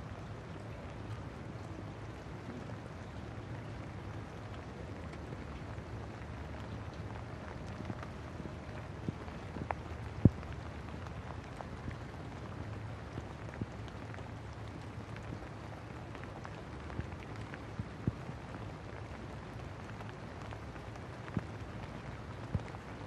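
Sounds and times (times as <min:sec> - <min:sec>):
raindrop ticks: 0:00.0 - 0:23.0
steady rain falling: 0:00.0 - 0:23.0.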